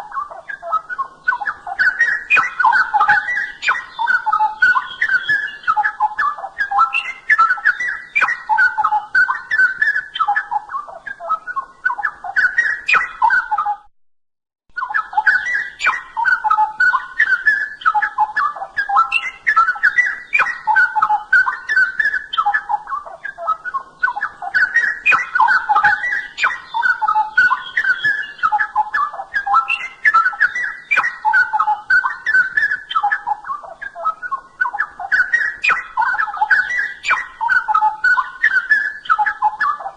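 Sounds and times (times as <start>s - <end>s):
bird whistling and warbling: 0.0s - 13.9s, 14.7s - 39.9s.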